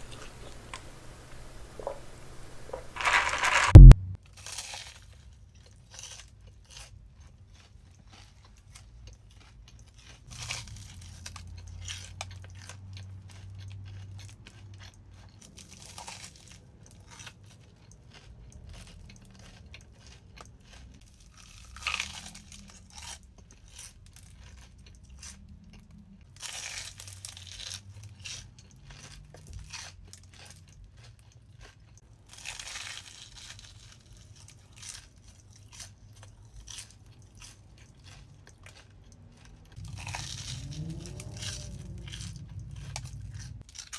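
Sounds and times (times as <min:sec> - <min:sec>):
crackly chewing: 0:00.0 - 0:43.9
crunchy bites into food: 0:02.7 - 0:25.4, 0:26.3 - 0:43.9.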